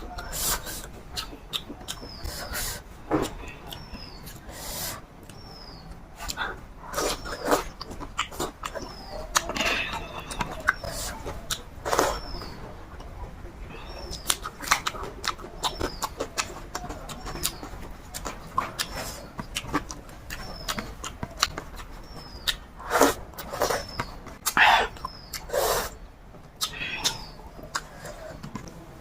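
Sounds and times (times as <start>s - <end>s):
person chewing food: 0.0s - 12.6s, 13.9s - 28.5s
small bird chirping: 0.1s - 12.7s, 13.7s - 28.5s.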